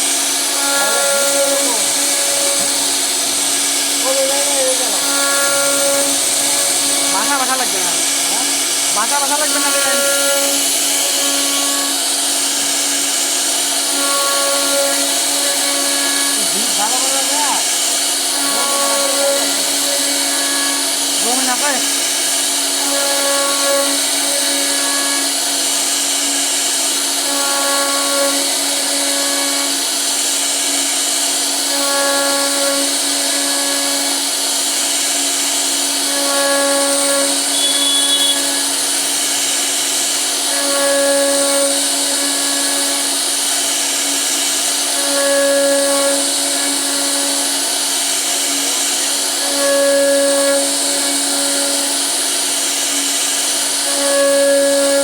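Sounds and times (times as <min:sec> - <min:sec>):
higher cutting tones: 0:00.0 - 0:29.8, 0:31.5 - 0:55.0
router spindle whine: 0:00.0 - 0:55.0.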